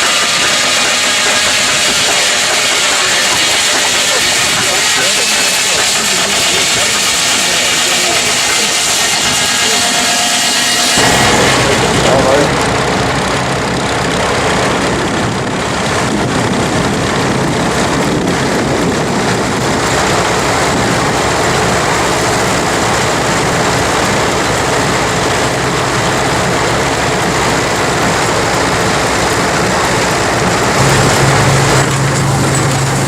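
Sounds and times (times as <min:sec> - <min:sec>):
machinery droning: 0:00.0 - 0:33.0.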